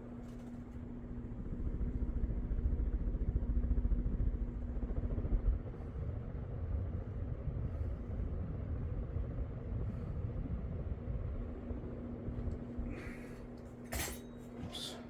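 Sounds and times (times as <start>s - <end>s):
faint motor hum: 0.0s - 15.0s
fan airflow buffeting microphone: 0.0s - 15.0s.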